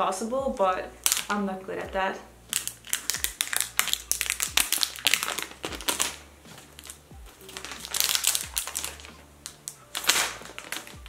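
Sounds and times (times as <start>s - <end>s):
background music with low beat: 0.0s - 11.0s
plastic shrink wrap crinkling: 0.5s - 1.4s, 2.5s - 11.0s.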